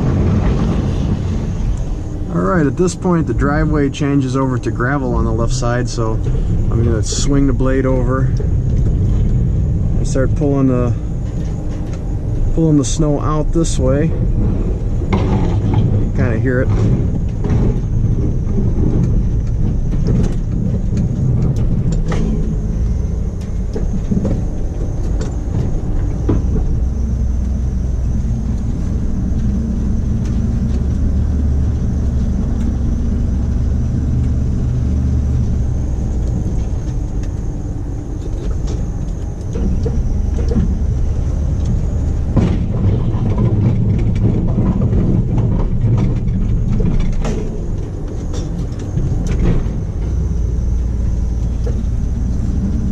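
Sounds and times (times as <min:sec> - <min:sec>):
pickup truck engine under load: 0:00.0 - 0:52.9.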